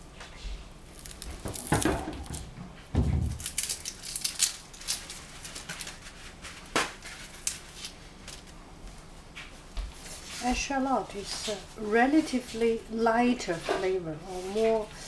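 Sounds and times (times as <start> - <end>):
shallot skin crackling and rustling: 0.3 - 2.4, 3.2 - 13.6.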